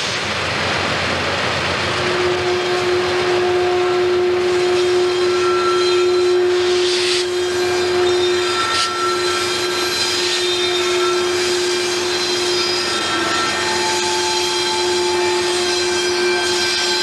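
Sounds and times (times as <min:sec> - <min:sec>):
locomotive engines droning: 0:00.0 - 0:17.0.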